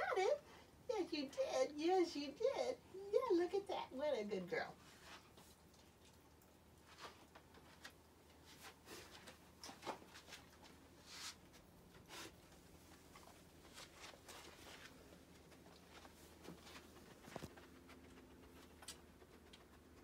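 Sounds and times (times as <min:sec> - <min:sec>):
puppy rustling and sniffing: 0:00.9 - 0:20.0.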